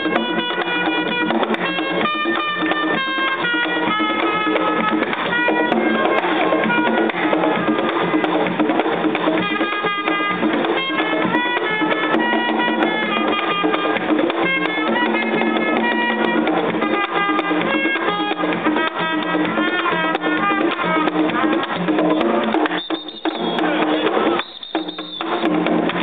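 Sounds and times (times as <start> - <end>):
live band music: 0.0 - 26.0.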